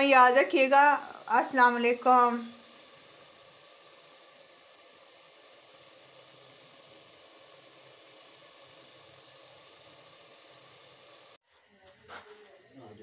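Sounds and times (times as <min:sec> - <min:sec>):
curry sizzling in a pan: 0:00.0 - 0:13.0.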